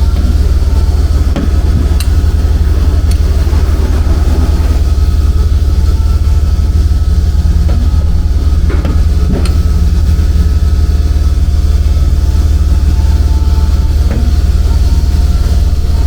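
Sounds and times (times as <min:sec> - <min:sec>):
low pulsing machine hum: 0:00.0 - 0:16.0.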